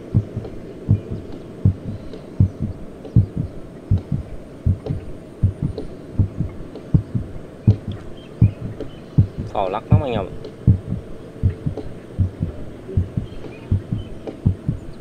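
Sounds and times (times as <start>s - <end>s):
low thumping beat: 0.0s - 15.0s.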